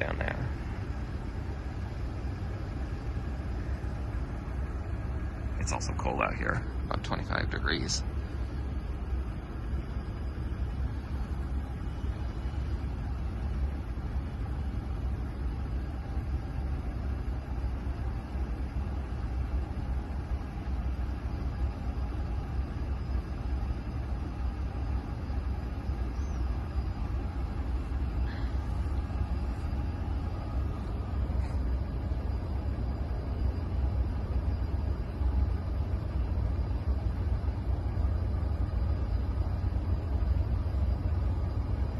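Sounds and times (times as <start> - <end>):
distant freight train rumble: 0.0 - 41.9.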